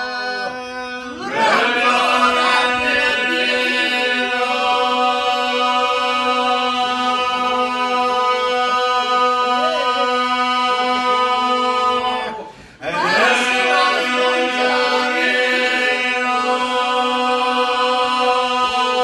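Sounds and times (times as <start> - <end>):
group singing a drone: 0.0 - 19.0
solo voices singing melody: 0.0 - 19.0.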